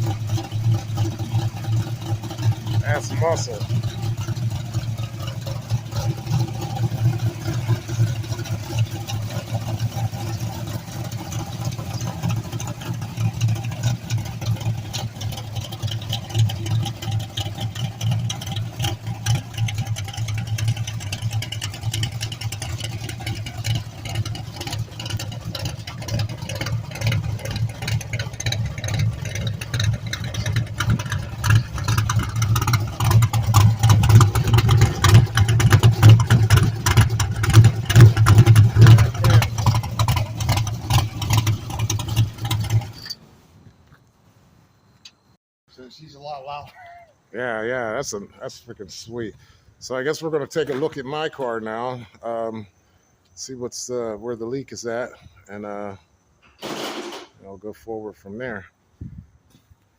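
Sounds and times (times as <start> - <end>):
car engine idling: 0.0 - 43.9, 45.1 - 59.4.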